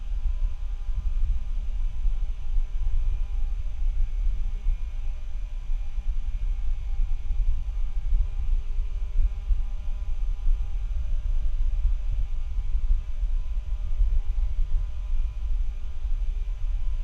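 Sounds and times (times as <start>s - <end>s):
faint steady hum: 0.0s - 17.0s
jittery low microphone rumble: 0.0s - 17.0s.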